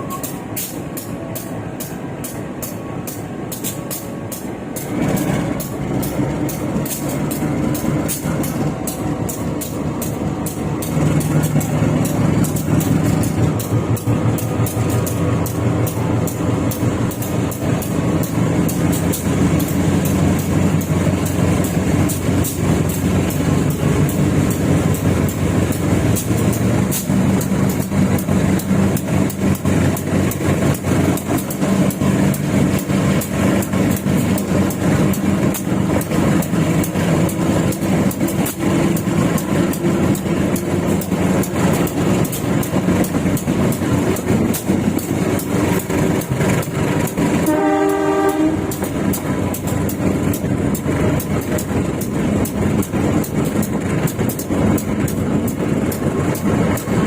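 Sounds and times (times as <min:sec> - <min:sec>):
carriage wheels rattling on track: 0:00.0 - 0:57.0.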